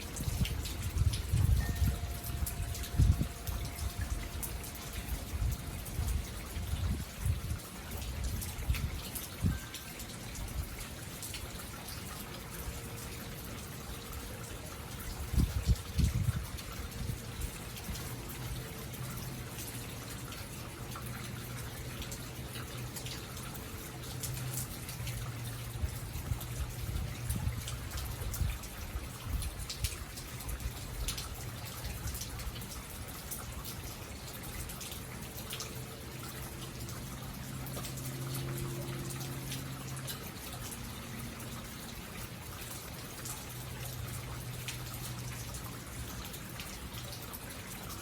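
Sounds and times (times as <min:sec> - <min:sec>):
rain falling: 0:00.0 - 0:48.0
water drips: 0:00.0 - 0:48.0.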